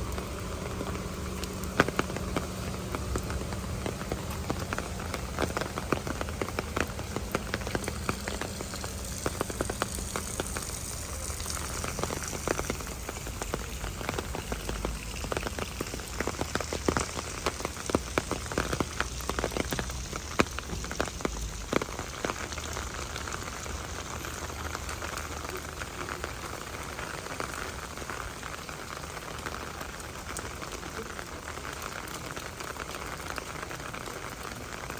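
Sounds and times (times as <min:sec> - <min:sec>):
close raindrop taps: 0:00.0 - 0:34.9
steady rain: 0:00.0 - 0:34.9.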